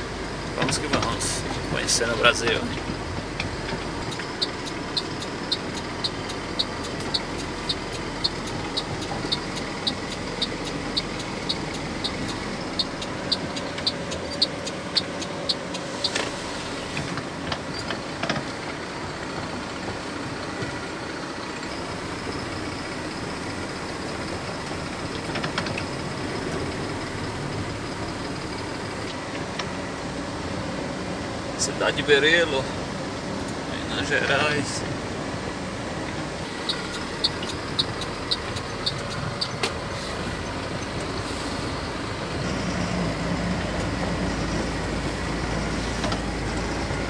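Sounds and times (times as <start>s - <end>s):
light regular ticking: 0.2s - 30.4s, 33.4s - 47.0s.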